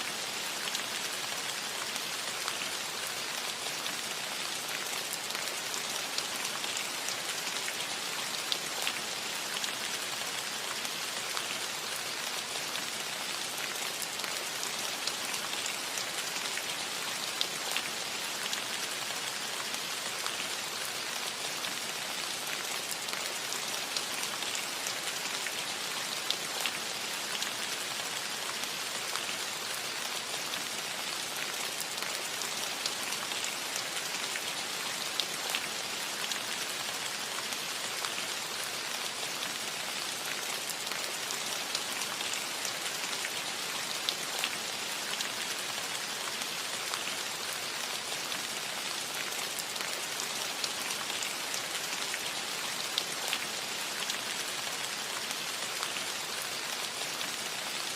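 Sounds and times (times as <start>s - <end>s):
rain on a roof: 0.0s - 57.9s.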